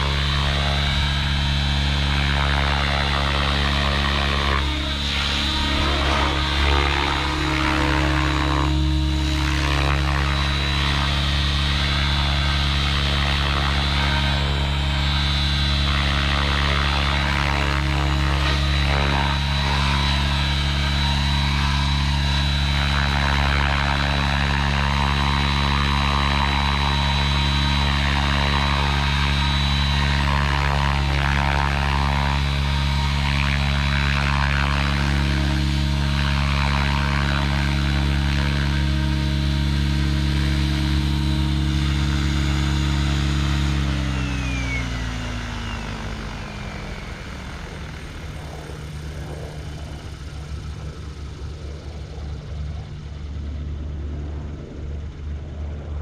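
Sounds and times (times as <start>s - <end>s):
thin high whine: 0.0s - 55.0s
model helicopter rotor hum: 0.0s - 56.0s.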